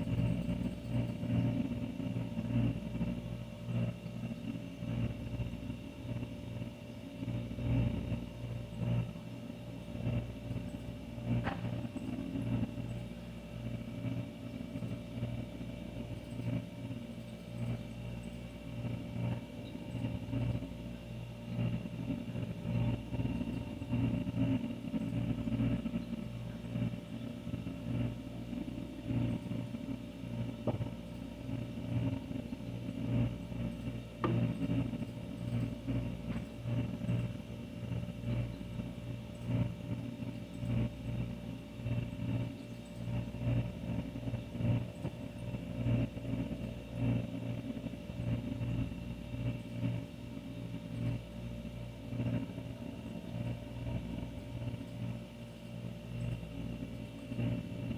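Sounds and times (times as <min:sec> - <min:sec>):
refrigerator humming: 0:00.0 - 0:57.9.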